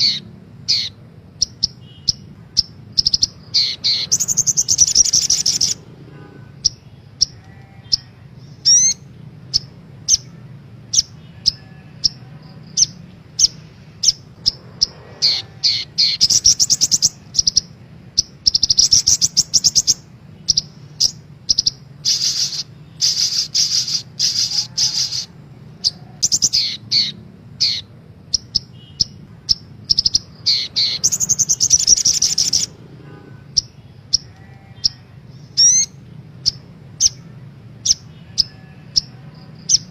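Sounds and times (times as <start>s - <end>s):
bird chirps and trills: 0.0s - 39.9s
faint low hum: 0.0s - 39.9s.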